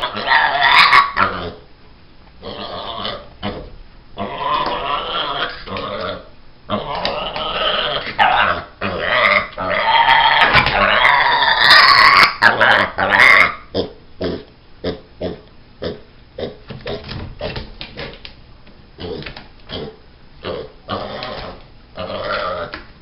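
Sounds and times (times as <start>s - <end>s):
pig squealing: 0.0s - 1.6s, 2.4s - 17.6s, 19.0s - 22.8s
pig grunting: 0.0s - 1.7s, 2.4s - 18.2s, 19.0s - 22.8s.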